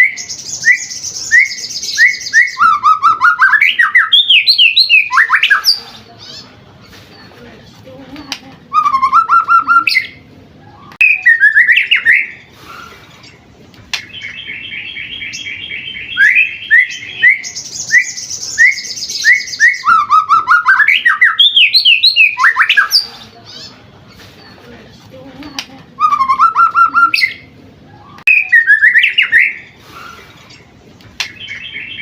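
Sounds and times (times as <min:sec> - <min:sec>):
bird singing varied phrases: 0:00.0 - 0:06.5, 0:08.3 - 0:12.5, 0:13.2 - 0:23.8, 0:25.4 - 0:32.0.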